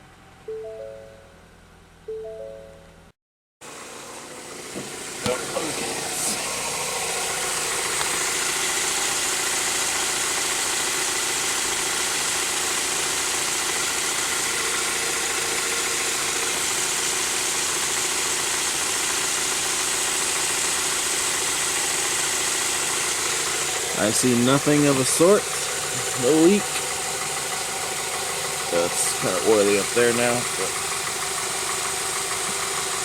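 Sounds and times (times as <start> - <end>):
car engine idling: 2.8 - 33.0.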